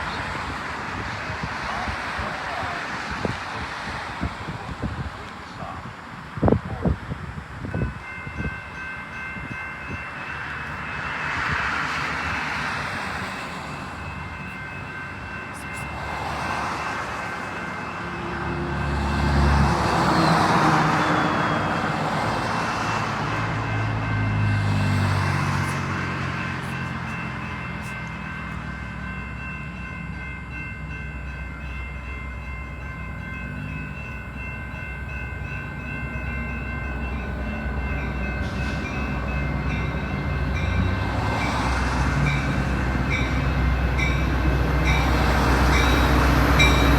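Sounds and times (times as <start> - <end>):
diesel train passing: 0.0 - 46.9.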